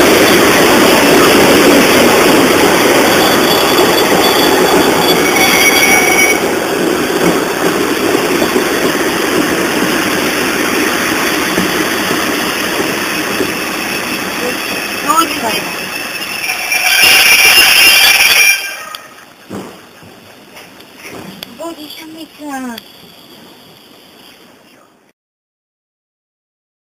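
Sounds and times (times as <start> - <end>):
wheels squealing on rail: 0.0 - 24.5
train rumbling on track: 0.0 - 25.1.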